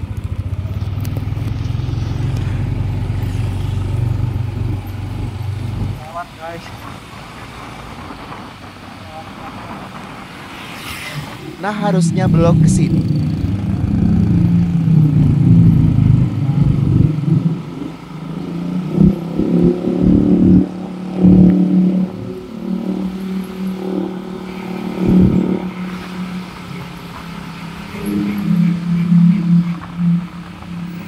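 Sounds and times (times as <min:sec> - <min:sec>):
wind rumbling on microphone: 0:00.0 - 0:06.0, 0:06.7 - 0:31.0
motorcycle engine running: 0:00.0 - 0:06.4, 0:11.9 - 0:31.0.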